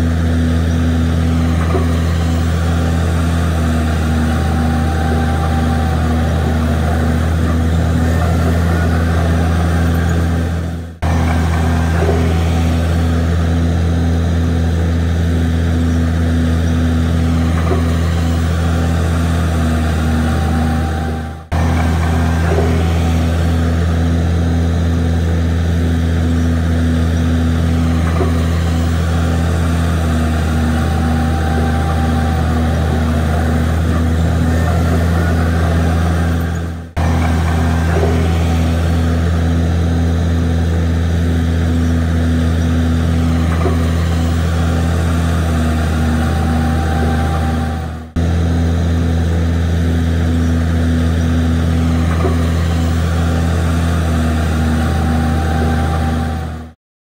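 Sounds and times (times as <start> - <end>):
bulldozer diesel engine running: 0.0 - 56.8.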